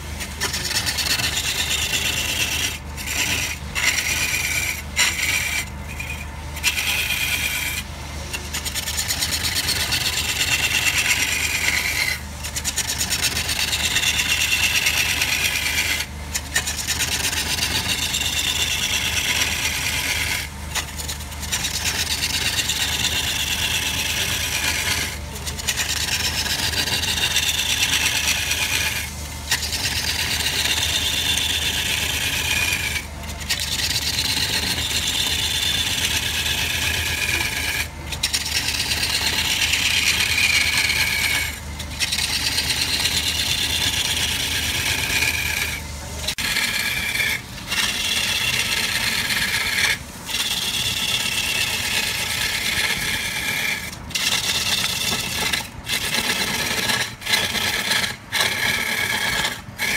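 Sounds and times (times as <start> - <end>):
lathe tool cutting wood: 0.0 - 59.9.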